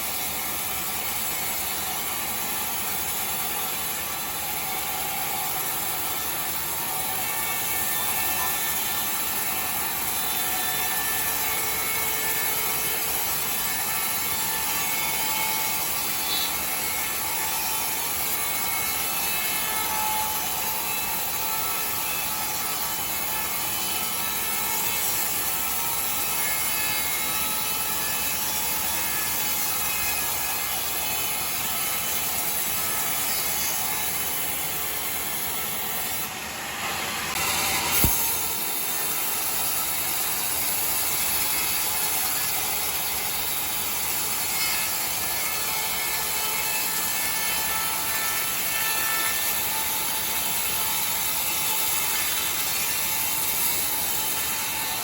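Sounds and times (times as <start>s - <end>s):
saw cutting timber: 0.0s - 55.0s.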